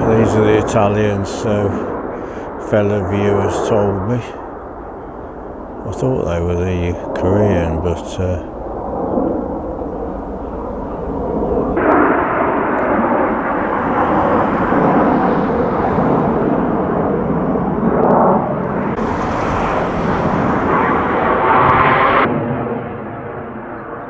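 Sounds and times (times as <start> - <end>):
jet aircraft roaring past: 0.0 - 24.0.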